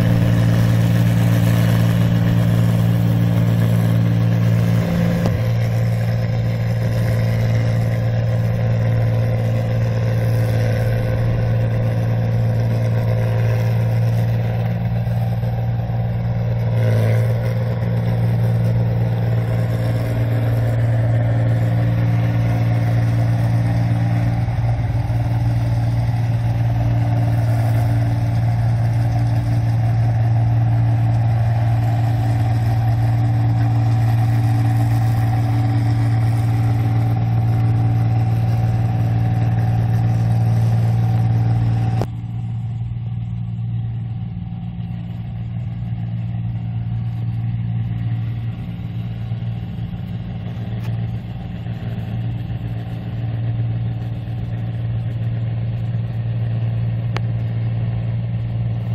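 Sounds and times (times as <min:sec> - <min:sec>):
combine harvester engine drone: 0:00.0 - 0:58.9.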